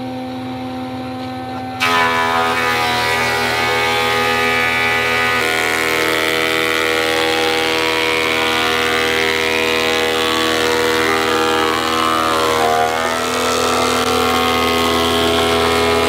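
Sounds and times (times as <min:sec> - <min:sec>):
thickness planer whining: 0:01.2 - 0:16.0.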